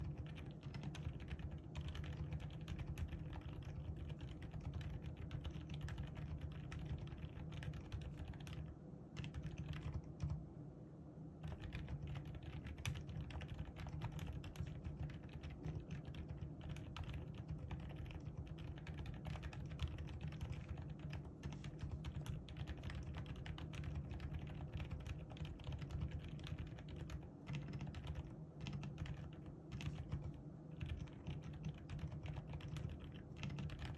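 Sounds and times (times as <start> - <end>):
quiet keyboard typing: 0.0 - 10.5, 11.4 - 33.9.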